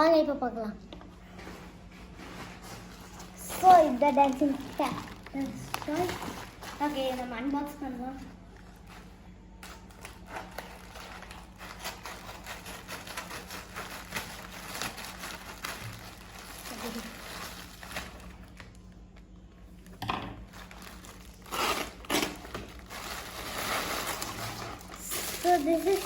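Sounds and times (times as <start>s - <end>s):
packaging crinkling and rustling: 2.6s - 26.0s.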